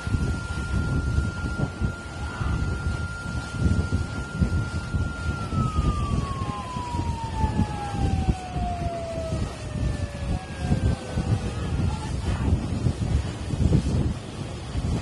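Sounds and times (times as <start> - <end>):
siren winding down: 0.0 - 12.2
low rumbling: 0.0 - 15.0
wind noise: 0.0 - 15.0.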